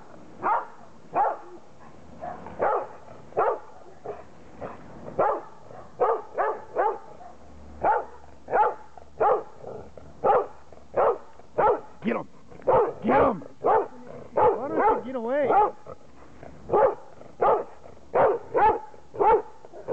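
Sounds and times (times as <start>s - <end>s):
dog barking: 0.4s - 12.0s, 12.6s - 15.8s, 16.7s - 19.9s.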